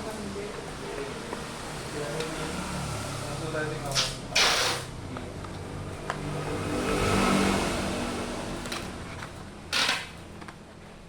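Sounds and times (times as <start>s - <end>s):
vehicle engine passing by: 0.2s - 9.5s.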